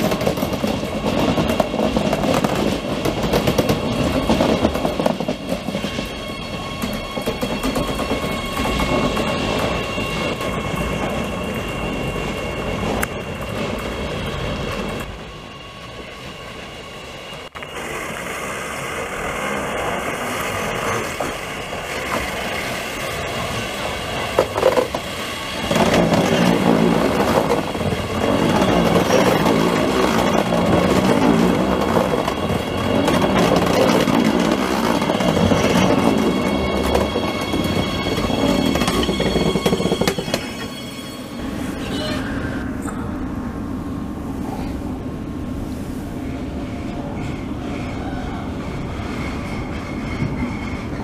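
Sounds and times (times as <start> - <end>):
metro train running on track: 0.0 - 51.0
train passing close by: 0.0 - 51.0.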